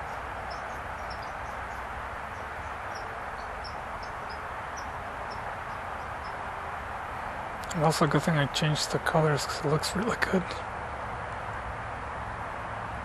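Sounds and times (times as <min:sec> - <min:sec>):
small birds chirping: 0:00.0 - 0:10.7
outdoor background hiss: 0:00.0 - 0:13.0.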